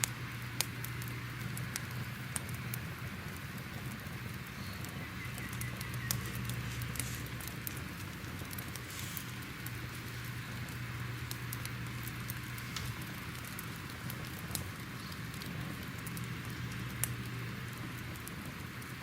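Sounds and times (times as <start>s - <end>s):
crackling fire: 0.0s - 19.0s.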